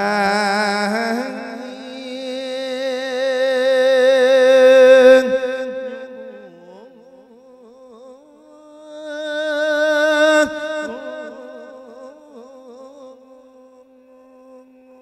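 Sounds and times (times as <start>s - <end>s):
monk chanting: 0.0s - 15.0s.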